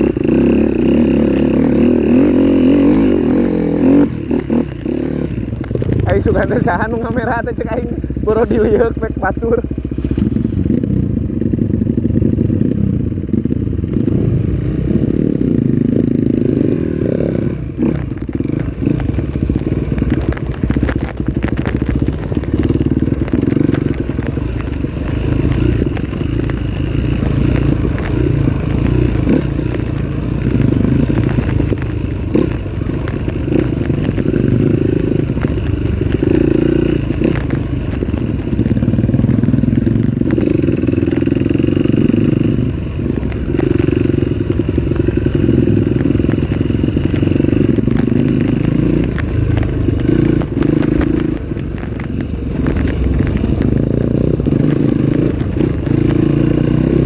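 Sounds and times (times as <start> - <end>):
knocks and clatter: 0.0 - 7.8, 15.0 - 57.0
motorcycle engine running: 0.0 - 57.0.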